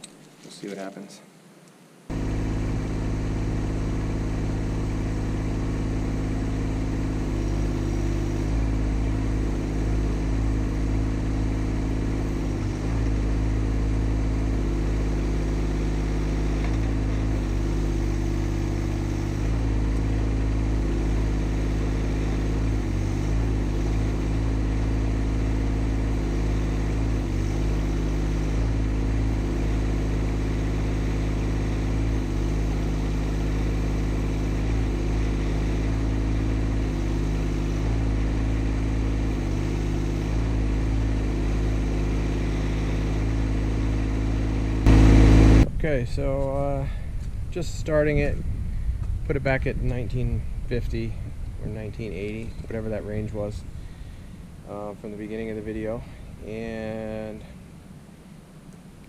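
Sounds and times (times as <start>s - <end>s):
excavator engine running: 2.1s - 59.0s.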